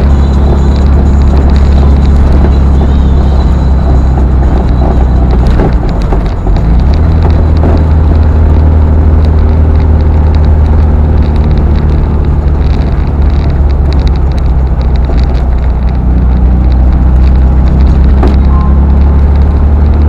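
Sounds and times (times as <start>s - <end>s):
car engine drone: 0.0s - 20.0s
wind and road noise: 0.0s - 20.0s.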